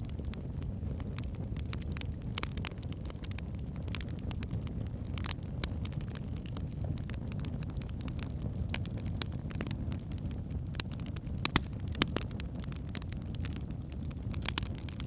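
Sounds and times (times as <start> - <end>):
fire flames rumbling: 0.0 - 15.0
logs crackling and popping: 0.1 - 15.0.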